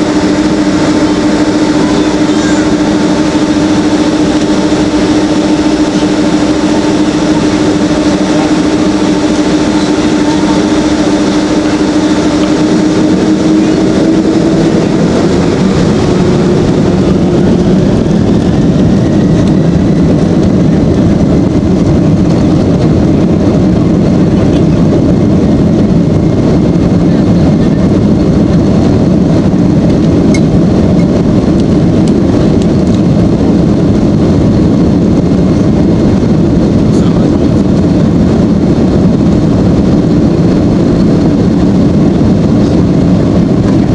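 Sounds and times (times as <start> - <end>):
jet engines roaring in cabin: 0.0 - 43.9.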